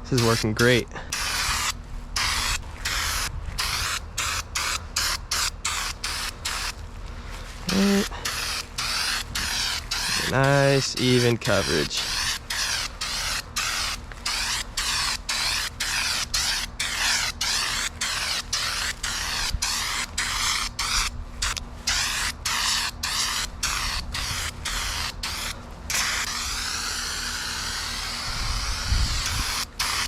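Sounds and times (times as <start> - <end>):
aerosol can spraying: 0.1 - 6.8, 7.6 - 30.0.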